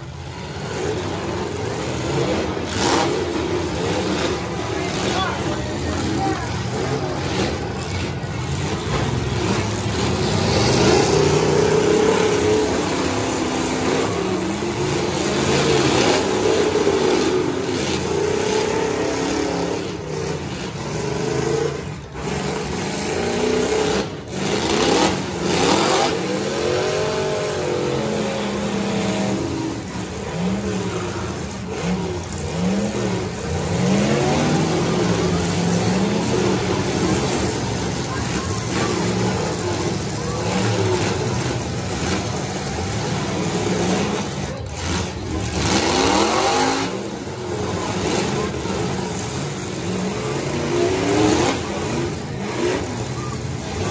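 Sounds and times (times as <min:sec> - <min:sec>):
truck engines revving: 0:00.0 - 0:53.9.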